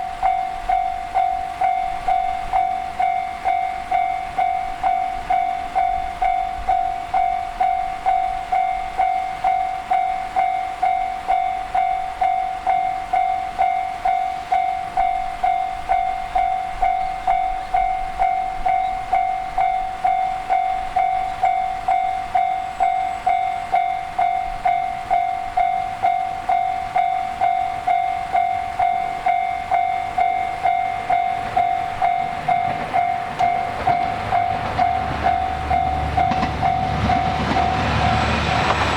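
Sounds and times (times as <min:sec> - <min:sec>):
railroad crossing bell clanging: 0:00.0 - 0:38.9.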